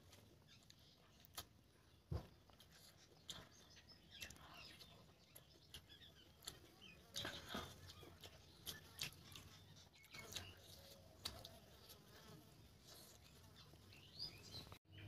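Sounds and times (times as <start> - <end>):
mouth chewing food wetly: 0.0 - 14.8.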